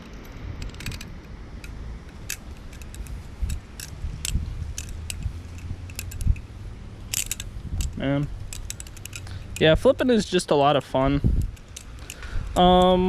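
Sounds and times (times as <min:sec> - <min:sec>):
butterfly knife trainer clicking: 0:00.0 - 0:09.9, 0:11.3 - 0:13.0.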